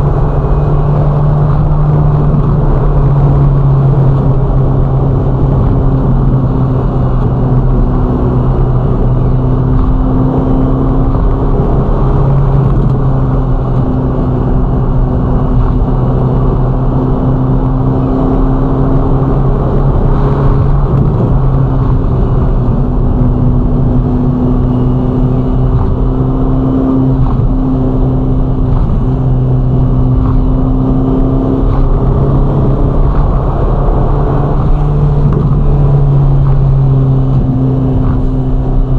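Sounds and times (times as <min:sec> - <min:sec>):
car engine cruising drone: 0:00.0 - 0:38.9
road and wind noise: 0:00.0 - 0:38.9.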